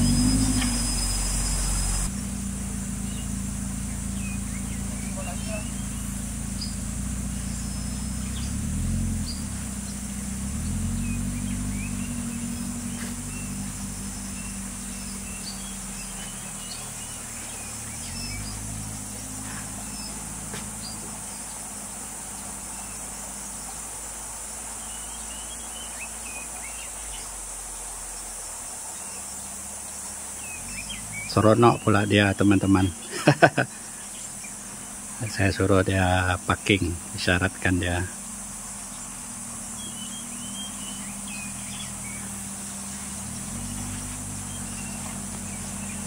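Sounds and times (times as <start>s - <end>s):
bird chirps: 0.0s - 2.2s, 2.9s - 23.9s, 24.7s - 27.4s, 28.1s - 46.0s
car engine running: 0.0s - 46.0s
high insect drone: 0.0s - 46.0s.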